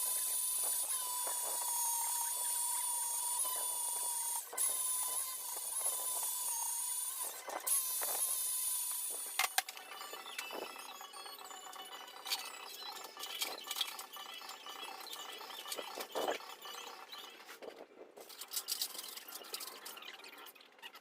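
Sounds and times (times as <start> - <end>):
power tool whining: 0.0 - 17.2.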